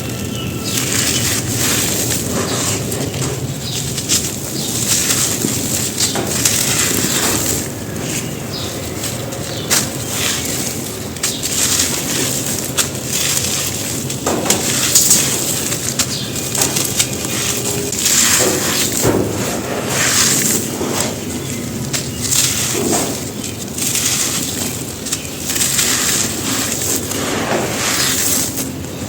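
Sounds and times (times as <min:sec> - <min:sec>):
dirt clumps crunching: 0:00.0 - 0:29.0.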